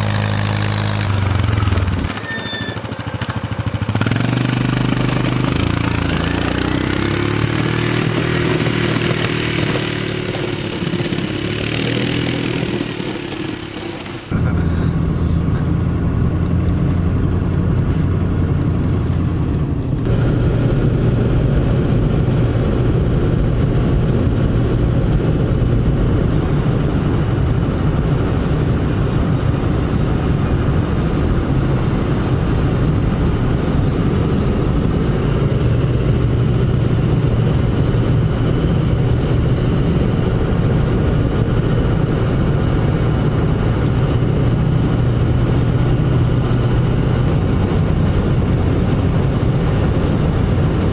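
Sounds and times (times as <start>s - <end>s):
vehicle engine and road noise: 0.0s - 50.9s.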